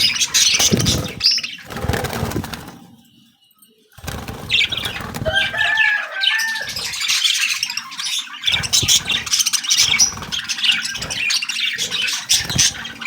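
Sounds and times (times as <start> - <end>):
birds flapping wings: 0.0 - 3.0, 4.0 - 7.2, 8.4 - 13.0
birds chirping: 0.0 - 13.0.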